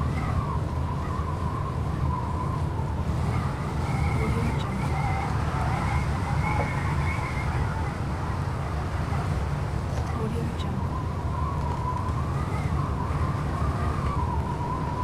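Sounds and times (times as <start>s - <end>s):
gusts of wind rumbling: 0.0s - 15.0s
wind whistling: 0.0s - 15.0s.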